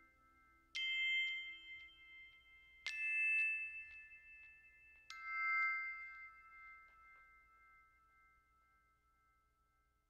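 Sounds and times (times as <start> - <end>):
soft bell-like chime chords: 0.0 - 10.0.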